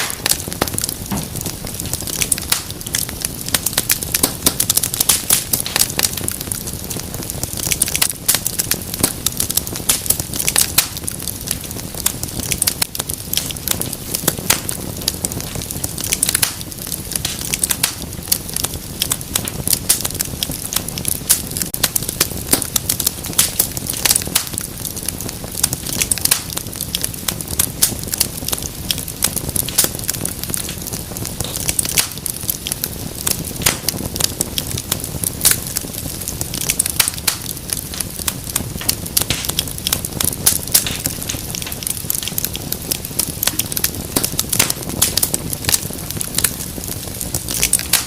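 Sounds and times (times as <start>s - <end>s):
fire rumbling: 0.0s - 48.0s
wood fire crackling: 0.0s - 48.0s.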